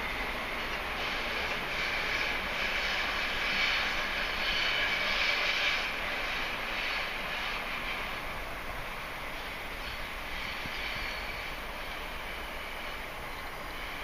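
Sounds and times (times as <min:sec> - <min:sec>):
train running with high whine: 0:00.0 - 0:14.0.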